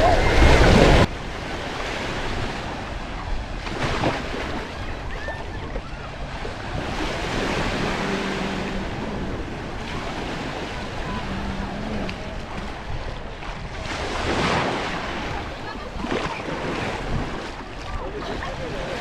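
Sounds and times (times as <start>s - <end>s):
surf washing onto beach: 0.0s - 19.0s
wind on microphone: 0.0s - 19.0s.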